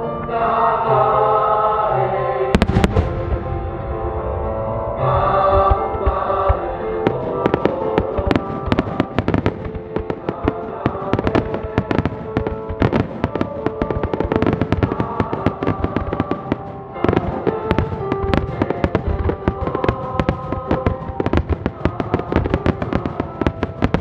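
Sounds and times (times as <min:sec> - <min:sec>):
music with long held tones: 0:00.0 - 0:24.0
fireworks bursting: 0:02.5 - 0:04.1, 0:05.6 - 0:24.0.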